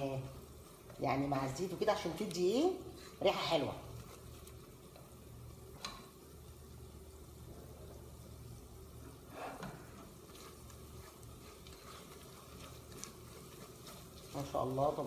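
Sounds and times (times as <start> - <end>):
onions sizzling in oil: 0.0 - 7.4, 8.1 - 15.0.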